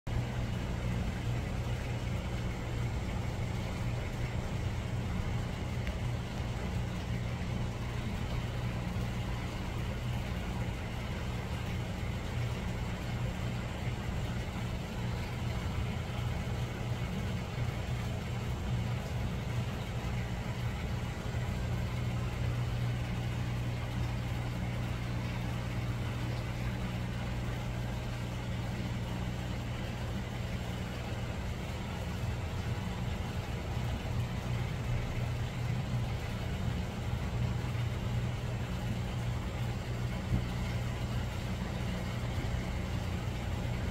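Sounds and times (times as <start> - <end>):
low electrical hum: 0.1 - 43.9.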